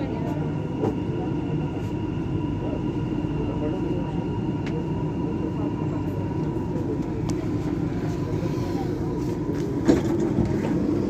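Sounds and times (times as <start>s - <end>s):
train car interior rumble: 0.0s - 11.0s.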